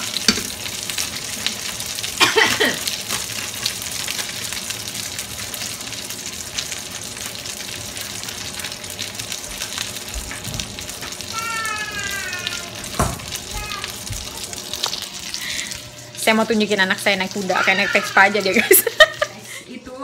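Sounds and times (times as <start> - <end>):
chicken frying in hot oil: 0.0 - 19.4.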